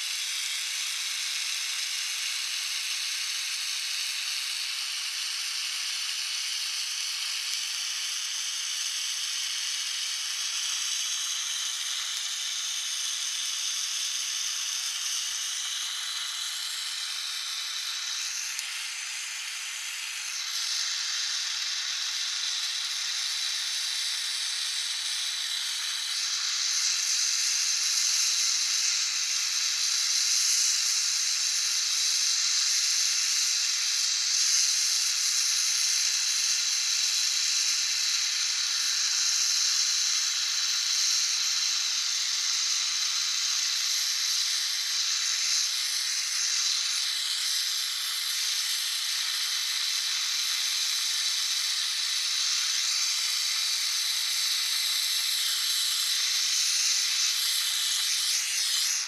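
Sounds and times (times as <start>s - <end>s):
torch flame hissing: 0.0s - 59.0s.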